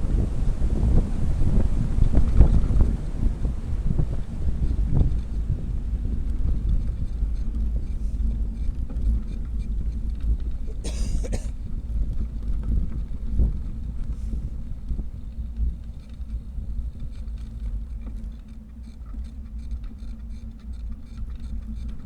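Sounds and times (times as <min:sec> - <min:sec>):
wind buffeting microphone: 0:00.0 - 0:18.2.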